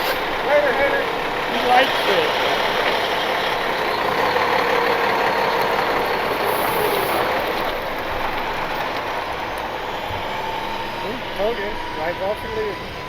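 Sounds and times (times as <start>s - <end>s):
tow truck engine running: 0.0s - 13.0s.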